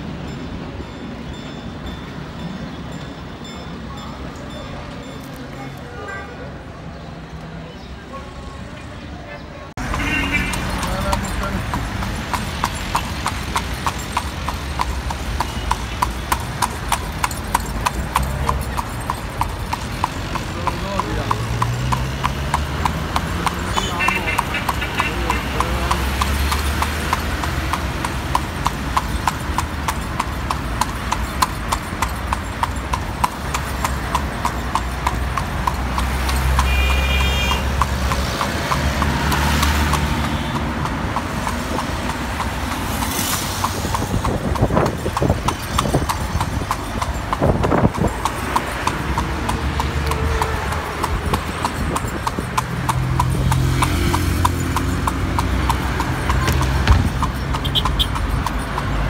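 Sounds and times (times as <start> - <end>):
rumble of wheels and traffic: 0.0 - 59.0
hooves clip-clopping on pavement: 9.8 - 59.0.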